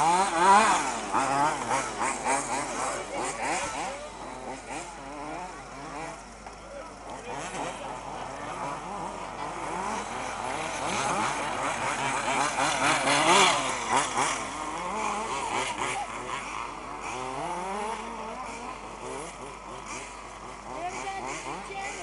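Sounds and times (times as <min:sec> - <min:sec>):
small two-stroke engines revving: 0:00.0 - 0:22.0.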